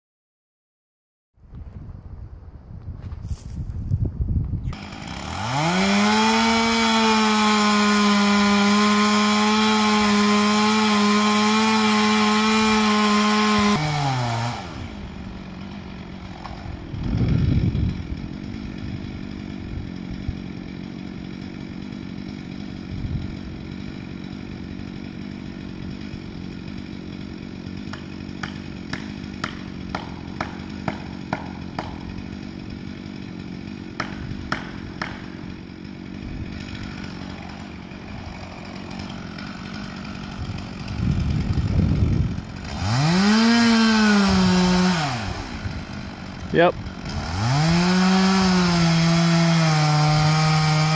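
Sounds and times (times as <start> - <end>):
chainsaw cutting wood: 4.4 - 50.9
chainsaw revving: 4.7 - 50.9.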